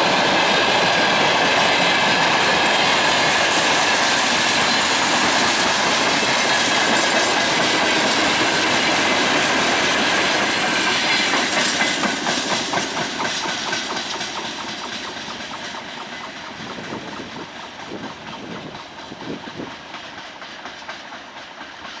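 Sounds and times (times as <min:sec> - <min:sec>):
freight train wagons clattering: 0:00.0 - 0:22.0.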